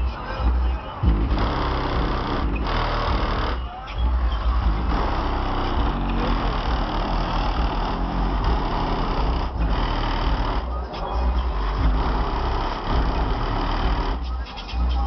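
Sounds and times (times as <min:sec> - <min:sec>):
bass-heavy music from subwoofers: 0:00.0 - 0:15.0.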